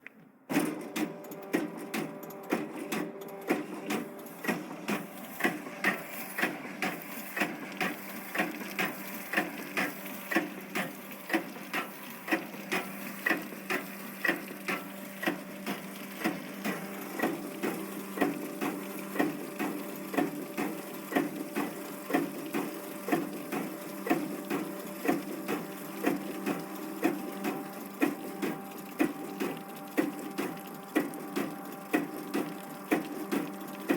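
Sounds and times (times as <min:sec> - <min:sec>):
machine knocking rhythmically: 0:00.6 - 0:33.9
steady machine hum: 0:00.8 - 0:33.9.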